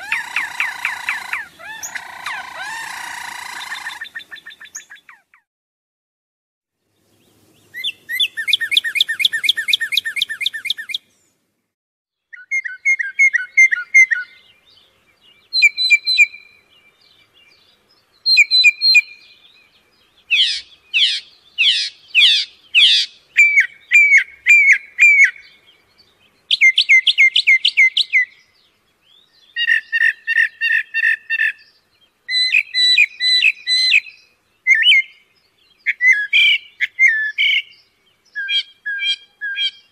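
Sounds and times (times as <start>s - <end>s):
songbird singing: 0.0s - 5.5s, 6.8s - 39.9s.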